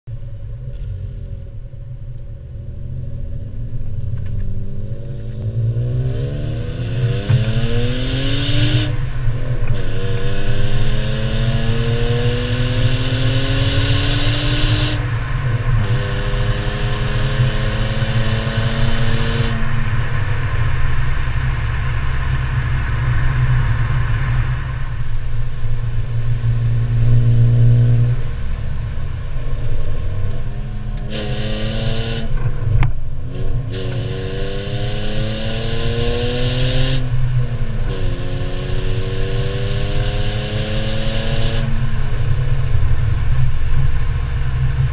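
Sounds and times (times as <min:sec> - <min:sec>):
car exhaust revving: 0:02.5 - 0:44.9.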